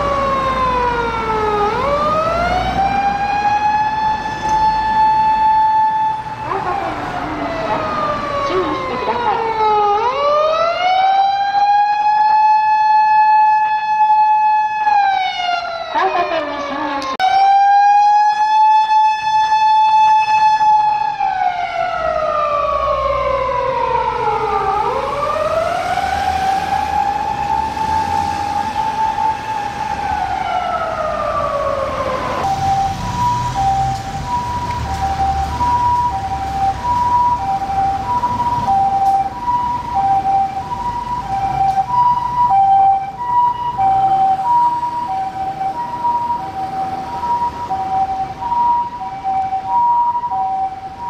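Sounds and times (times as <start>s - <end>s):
shorter falling siren tone: 0.0s - 51.0s
two-tone hi-lo siren: 0.0s - 51.0s
wailing emergency siren: 0.0s - 51.0s.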